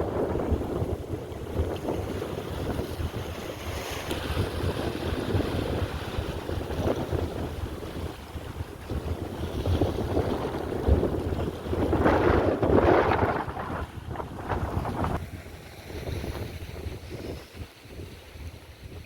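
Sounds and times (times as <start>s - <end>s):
sea surf: 0.0s - 19.0s
wind buffeting microphone: 0.0s - 19.0s.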